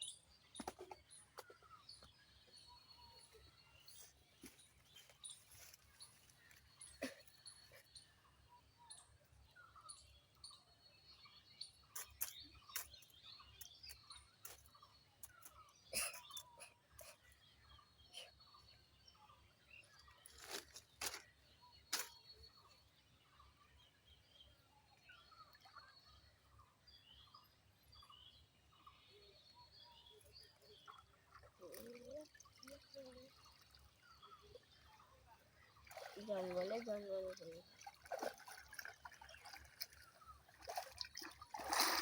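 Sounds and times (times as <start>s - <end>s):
bird chirps: 0.0s - 37.6s
faint outdoor ambience: 0.0s - 42.0s.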